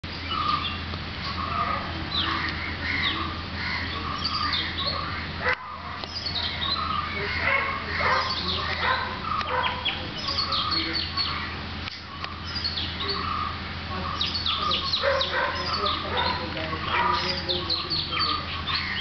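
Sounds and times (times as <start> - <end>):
birds chirping and calling: 0.0 - 19.0
low steady hum: 0.0 - 19.0.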